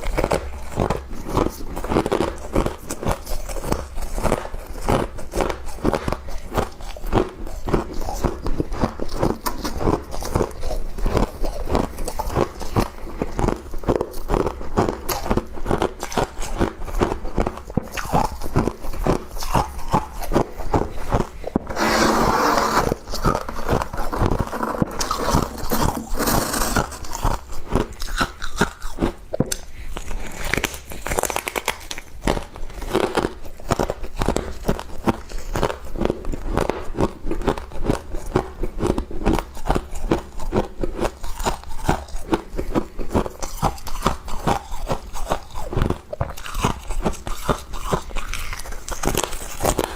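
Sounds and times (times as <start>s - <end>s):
person crunching frost: 0.0s - 49.9s.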